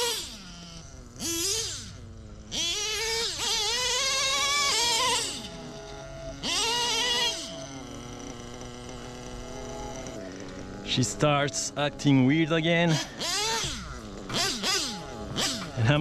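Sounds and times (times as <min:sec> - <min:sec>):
small engine revving: 0:00.0 - 0:16.0.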